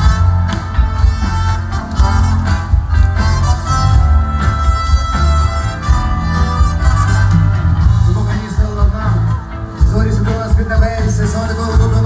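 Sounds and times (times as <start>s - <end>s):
live band playing loud music: 0.0s - 12.0s.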